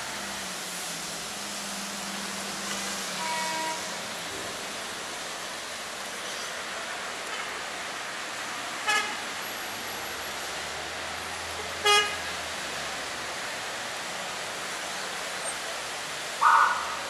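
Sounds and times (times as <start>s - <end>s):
rain hiss: 0.0s - 17.0s
traffic on wet street: 0.0s - 17.0s.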